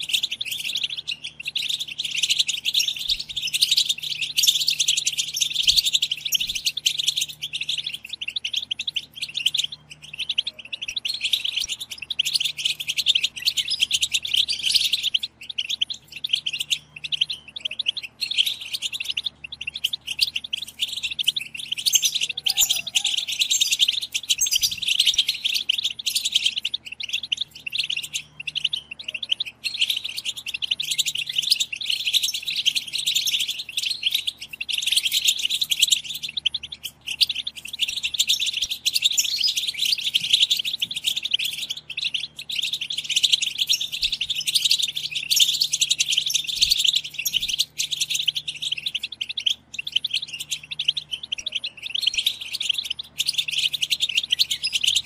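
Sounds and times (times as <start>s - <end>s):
goldfinches twittering: 0.0s - 55.0s.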